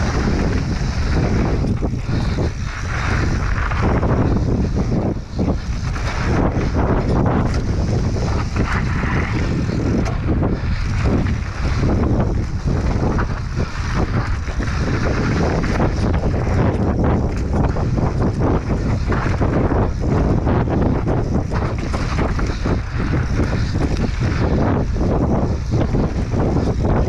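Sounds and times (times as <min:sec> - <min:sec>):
bike rattling over bumps: 0:00.0 - 0:27.0
tyres rumbling over dirt: 0:00.0 - 0:27.0
wind buffeting microphone: 0:00.0 - 0:27.0.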